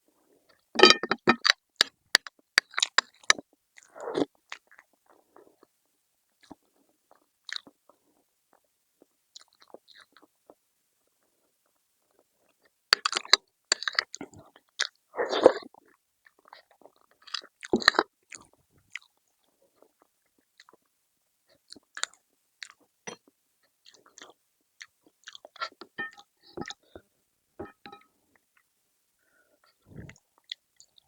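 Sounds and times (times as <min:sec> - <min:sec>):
person chewing food close to microphone: 0:00.4 - 0:27.1, 0:29.6 - 0:31.0.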